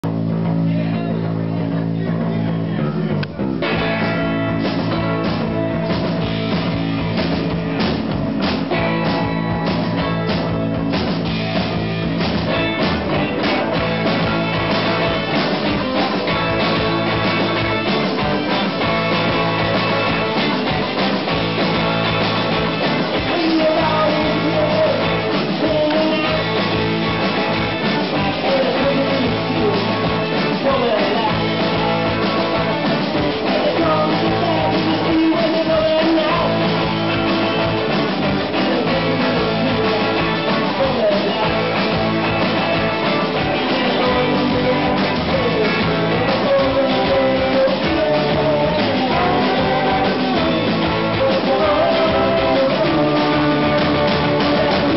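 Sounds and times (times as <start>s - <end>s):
drums: 0.0s - 54.9s
electric guitars and bass: 0.0s - 54.9s.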